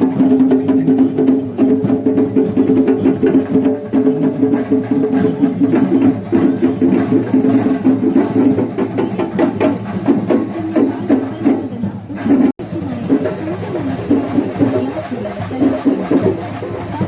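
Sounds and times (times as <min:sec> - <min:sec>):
rapid drum strokes: 0:00.0 - 0:17.0.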